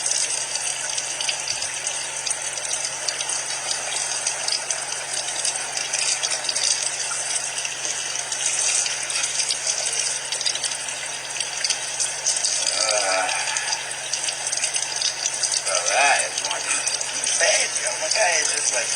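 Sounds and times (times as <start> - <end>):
shower water running: 0.0 - 18.9.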